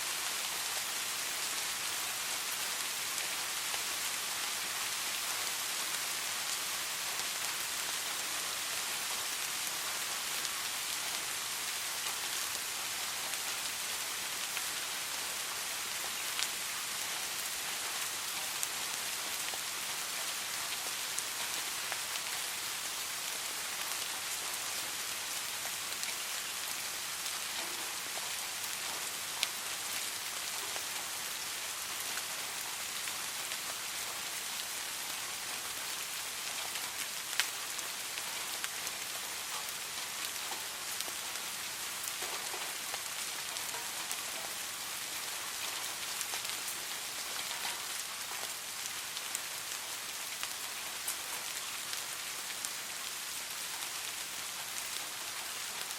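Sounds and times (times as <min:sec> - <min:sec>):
soft rain falling: 0:00.0 - 0:55.9
raindrops ticking on surface: 0:00.1 - 0:55.9.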